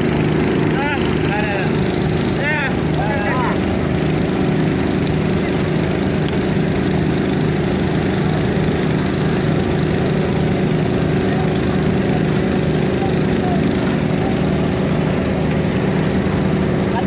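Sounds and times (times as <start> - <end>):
small motor running steadily: 0.0 - 17.0.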